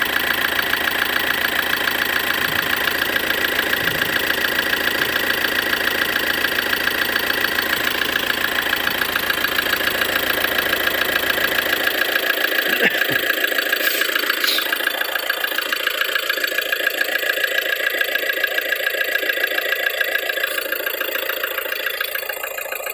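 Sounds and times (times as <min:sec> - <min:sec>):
diesel engine idling: 0:00.0 - 0:22.9
rhythmic engine knock: 0:00.0 - 0:22.9.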